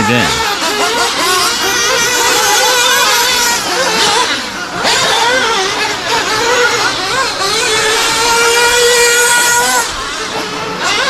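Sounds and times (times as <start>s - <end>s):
rc truck engines revving: 0.0s - 11.0s.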